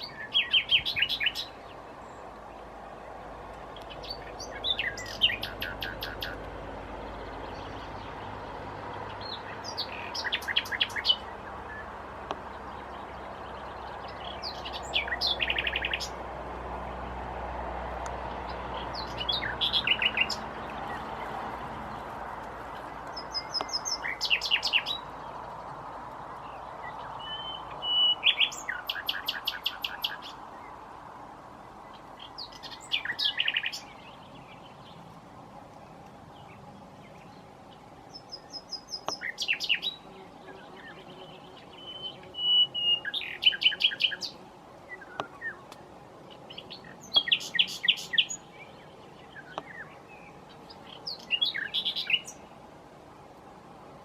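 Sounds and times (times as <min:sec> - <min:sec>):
nightingale singing: 0:00.0 - 0:02.7, 0:03.6 - 0:16.2, 0:18.5 - 0:21.3, 0:23.0 - 0:30.8, 0:31.6 - 0:35.1, 0:36.3 - 0:52.5.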